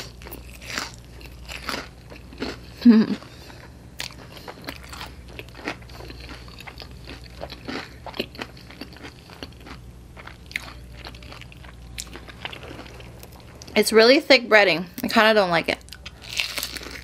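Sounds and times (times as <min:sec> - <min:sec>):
chewing crunchy fried food: 0:00.0 - 0:13.8, 0:15.8 - 0:17.0.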